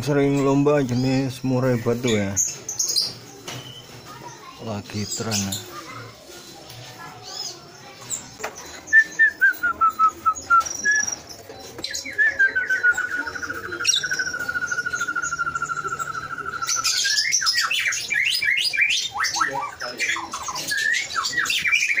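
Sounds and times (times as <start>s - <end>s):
birds chirping overlapping: 0.0s - 22.0s.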